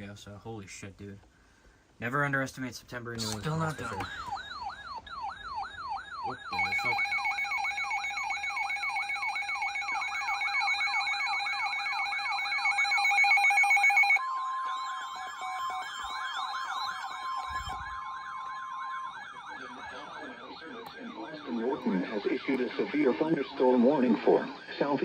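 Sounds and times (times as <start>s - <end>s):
steady alert tones: 3.2s - 25.0s
warbling siren tone: 3.2s - 25.0s.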